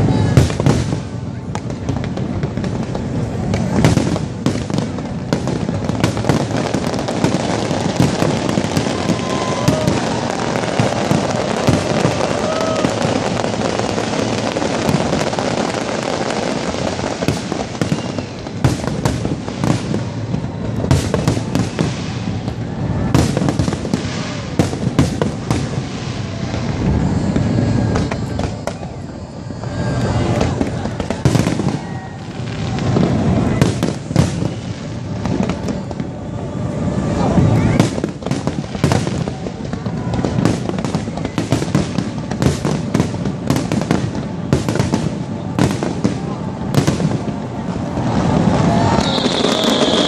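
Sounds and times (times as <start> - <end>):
fireworks bangs: 0.0 - 50.0
fireworks crackling: 0.0 - 50.0.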